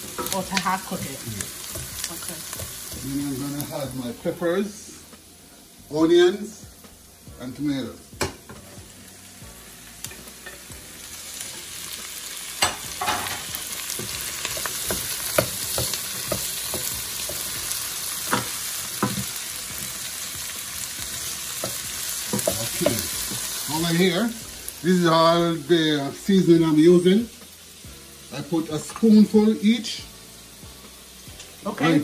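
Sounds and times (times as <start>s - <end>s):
food sizzling in a pot: 0.0s - 32.0s.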